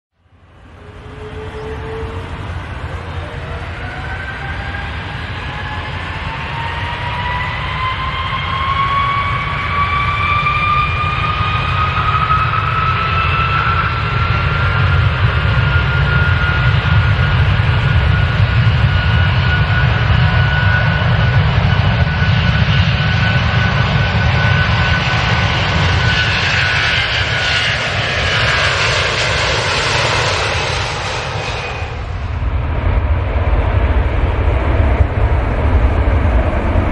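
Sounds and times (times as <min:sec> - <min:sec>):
turbine whine: 0:00.2 - 0:36.9
jet engines roaring: 0:00.3 - 0:36.9.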